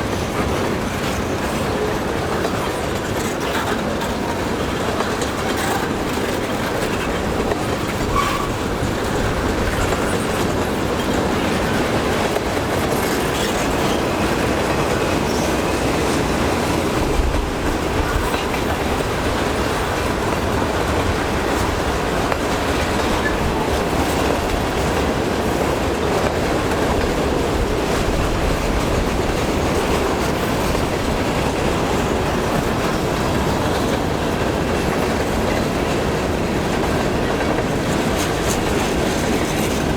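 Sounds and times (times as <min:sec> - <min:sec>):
freight train wheels rumbling: 0:00.0 - 0:39.9
wheels clacking over rail joints: 0:00.0 - 0:39.9.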